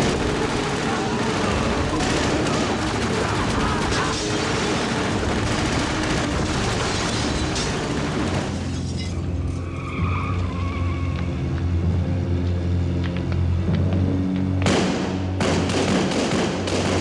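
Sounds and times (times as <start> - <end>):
tyres skidding: 0.0 - 14.6
dramatic music with deep note: 0.0 - 16.9.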